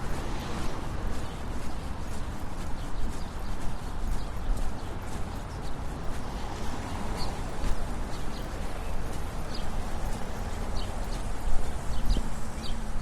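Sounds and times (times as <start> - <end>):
quick footsteps: 0.0 - 13.0
road traffic rumble: 0.0 - 13.0
small birds chirping: 0.1 - 13.0.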